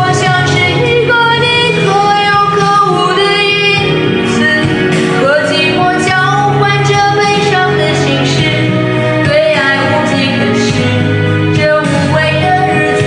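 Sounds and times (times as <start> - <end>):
backing music: 0.0 - 13.0
woman singing a ballad: 0.0 - 13.0.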